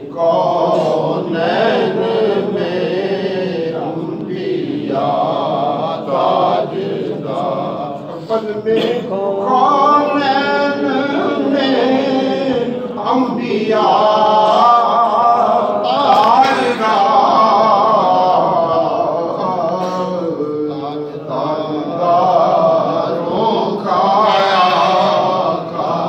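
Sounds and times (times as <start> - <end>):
men chanting together: 0.0 - 26.0.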